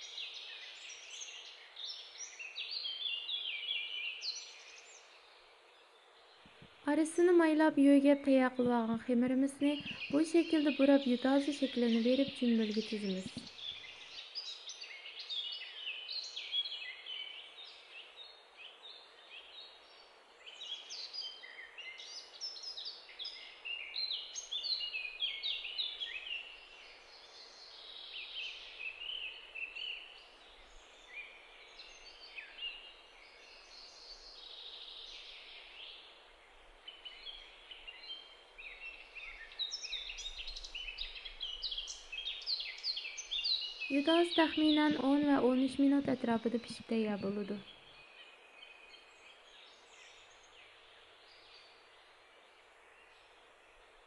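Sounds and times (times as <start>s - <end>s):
steady soft hiss: 0.0s - 44.9s, 46.6s - 54.0s
small birds chirping: 0.0s - 54.0s.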